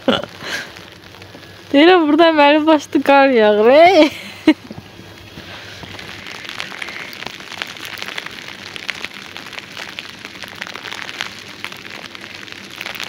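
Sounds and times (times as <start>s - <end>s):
wet snow pattering: 0.0s - 13.0s.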